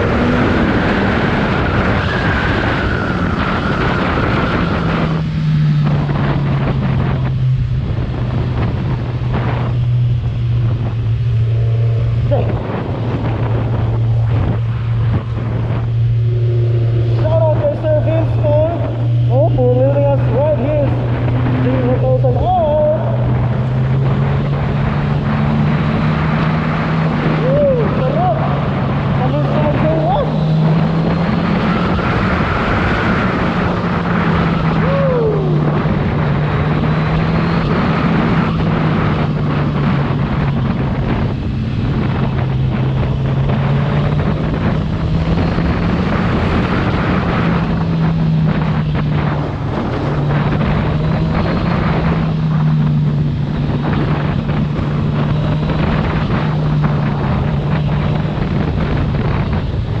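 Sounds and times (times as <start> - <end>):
motorcycle engine cruising: 0.0 - 60.0
wind rush on microphone: 0.0 - 60.0.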